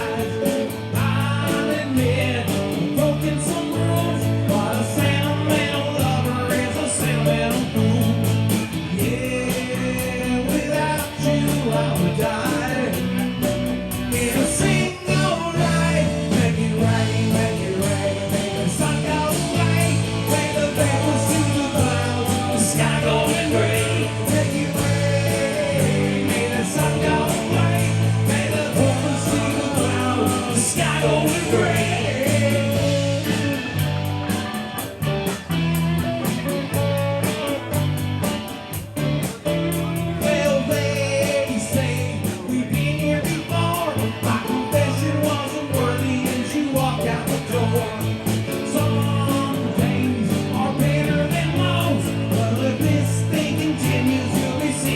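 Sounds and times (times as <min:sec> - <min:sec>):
person singing: 0:00.0 - 0:34.6, 0:39.8 - 0:54.9
guitar: 0:00.0 - 0:54.9
rhythmic bass line: 0:00.0 - 0:54.9.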